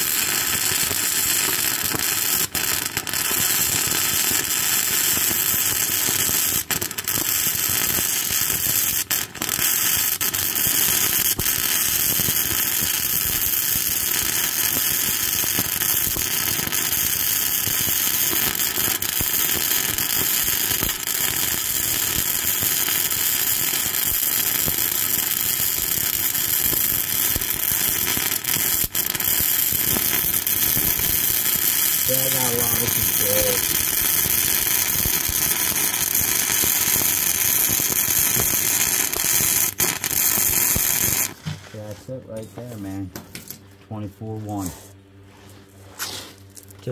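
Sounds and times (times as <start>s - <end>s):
welding arc crackling: 0.0s - 41.4s.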